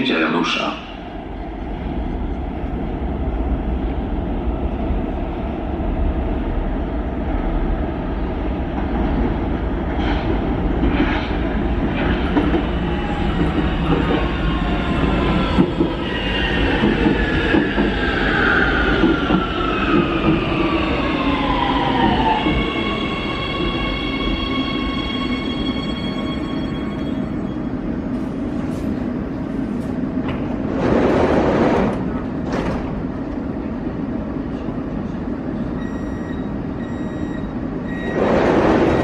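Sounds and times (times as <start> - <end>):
train rumbling through tunnel: 0.0 - 39.0.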